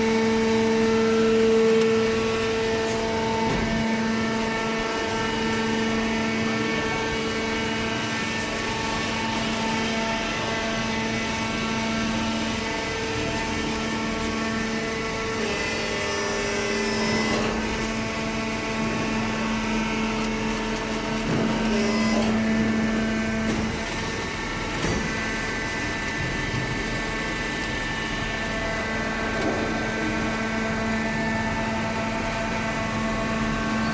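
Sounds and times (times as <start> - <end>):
hydraulic unit humming: 0.0 - 33.9
machine noise: 0.0 - 33.9.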